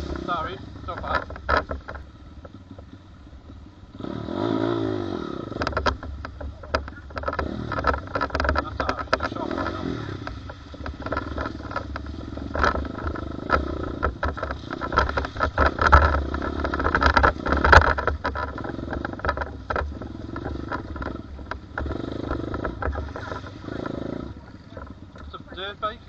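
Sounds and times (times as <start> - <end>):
clatter and knocks: 0.0 - 3.7, 5.4 - 26.0
dirt bike engine running: 0.0 - 26.0.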